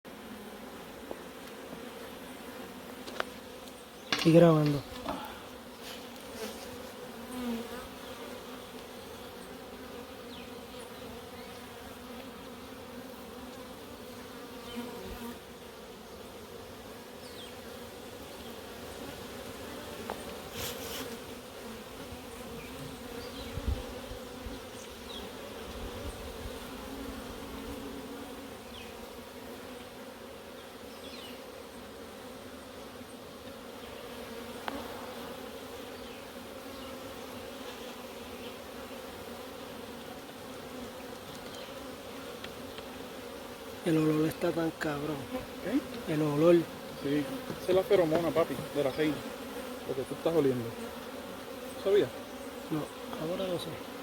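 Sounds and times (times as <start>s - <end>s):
bees buzzing: 0.1s - 54.0s.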